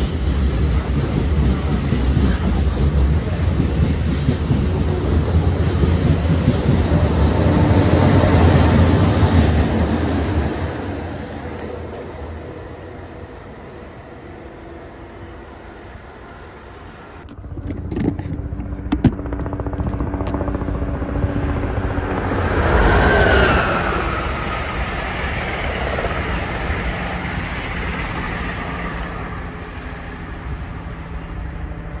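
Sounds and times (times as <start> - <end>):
train wheels rushing on rail: 0.0 - 17.6, 18.5 - 32.0.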